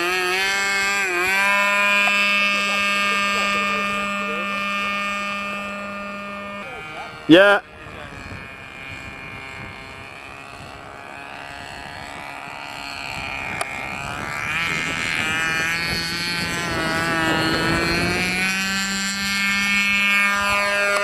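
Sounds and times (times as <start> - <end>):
model motor and propeller whining: 0.0 - 21.0.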